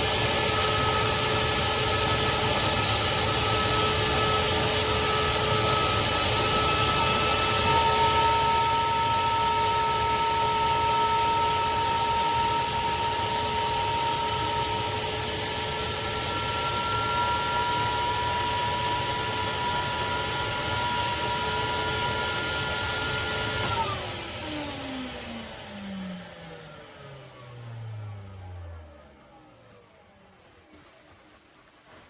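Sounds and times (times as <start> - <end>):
vacuum motor spinning down: 0.0 - 31.8
shop vac running: 0.0 - 32.0.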